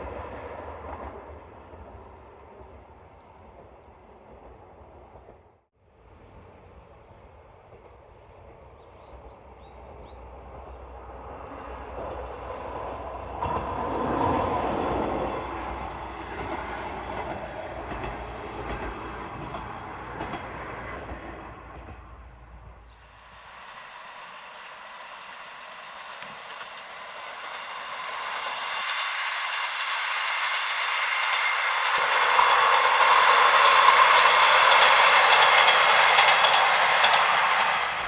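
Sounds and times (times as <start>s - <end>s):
train passing: 0.0s - 38.0s.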